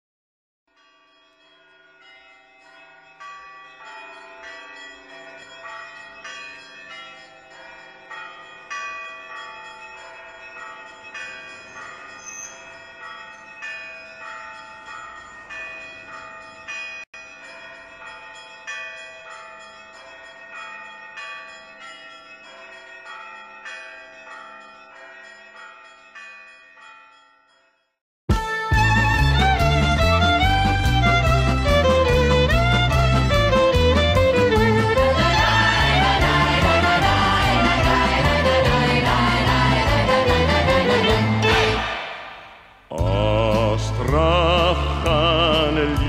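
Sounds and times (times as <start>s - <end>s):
bells ringing in a peal: 0.7s - 27.9s, 28.9s - 41.8s.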